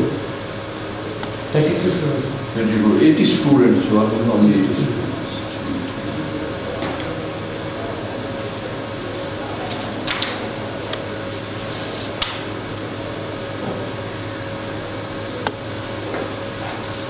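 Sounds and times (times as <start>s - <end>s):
fan ventilation hum: 0.0s - 17.0s.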